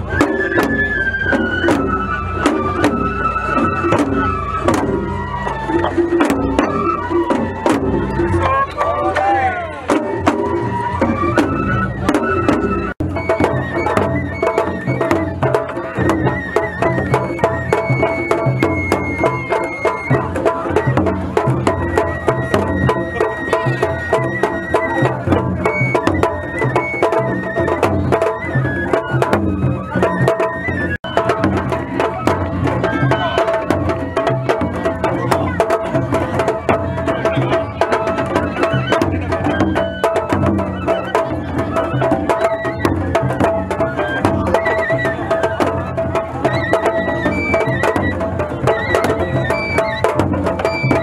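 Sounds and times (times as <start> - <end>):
bamboo flute long notes: 0.0 - 51.0
high melody line: 0.0 - 51.0
taiko drum beating: 0.0 - 51.0.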